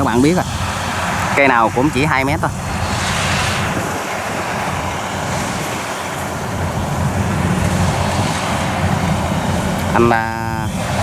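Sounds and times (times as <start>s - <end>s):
combine harvester diesel drone: 0.0s - 11.0s.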